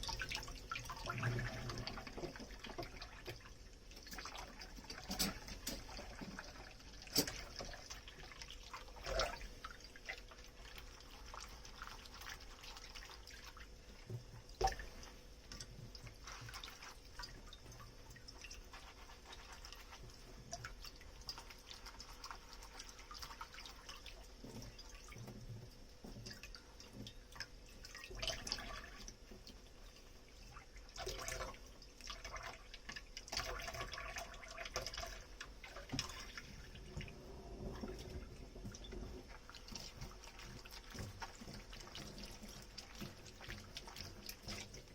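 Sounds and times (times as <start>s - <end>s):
water dripping and trickling: 0.0s - 44.9s.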